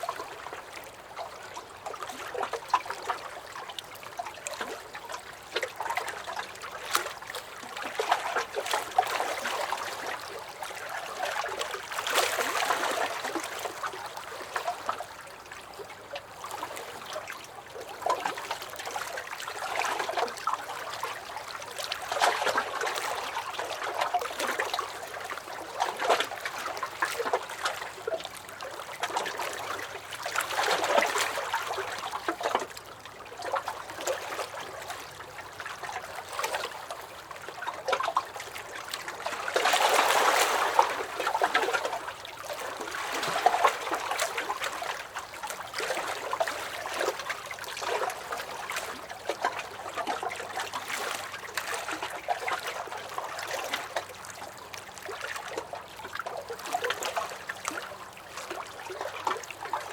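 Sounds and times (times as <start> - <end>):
waves lapping against a dock: 0.0 - 59.9.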